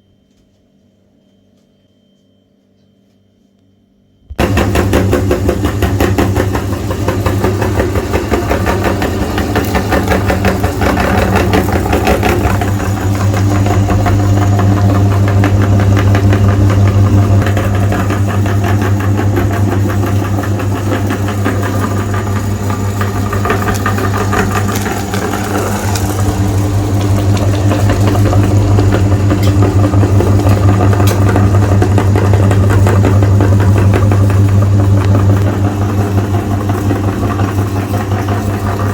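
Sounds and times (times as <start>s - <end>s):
electric meat grinder running: 4.4s - 38.9s.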